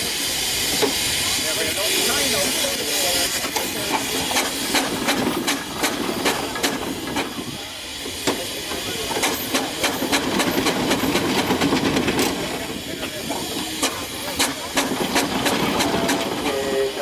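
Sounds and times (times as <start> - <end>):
steam engine hissing: 0.0 - 17.0.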